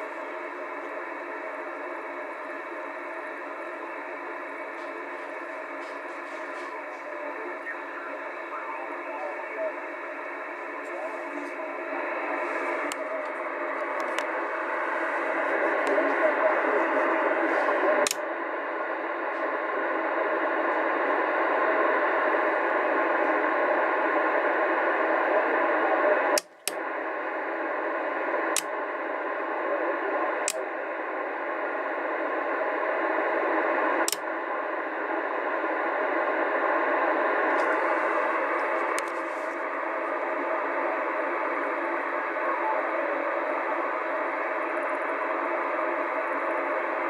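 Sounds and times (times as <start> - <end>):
radio signal thick with static: 0.0 - 47.0.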